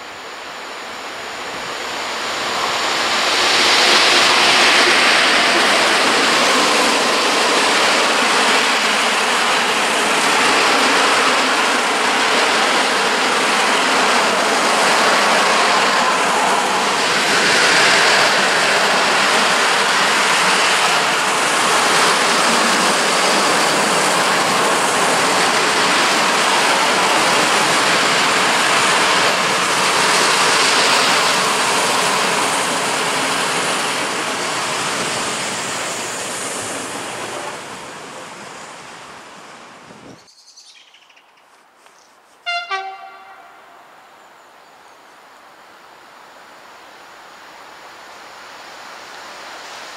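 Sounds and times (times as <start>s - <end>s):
steel wheels rushing on rail: 0.0s - 40.2s, 46.9s - 49.9s
freight train rolling past: 0.0s - 40.3s, 42.4s - 44.4s.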